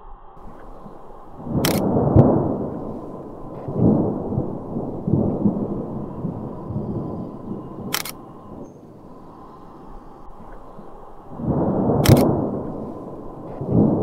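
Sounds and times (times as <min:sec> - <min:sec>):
rolling thunder rumble: 0:00.4 - 0:14.0
sharp thunder crack: 0:00.4 - 0:14.0.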